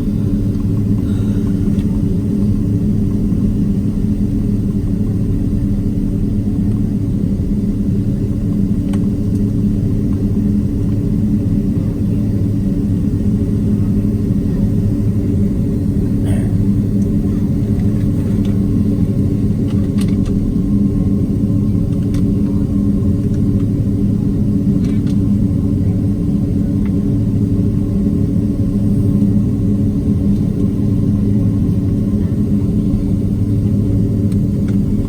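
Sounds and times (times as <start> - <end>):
aircraft cabin rumble and hum: 0.0 - 35.0.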